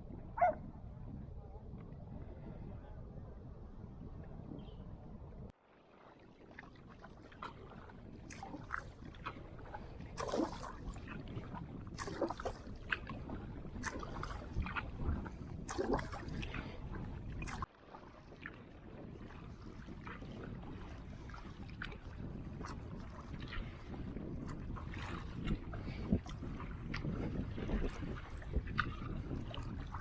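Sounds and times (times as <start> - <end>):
water splashing around a kayak: 0.0 - 30.0
wind on microphone: 0.0 - 30.0.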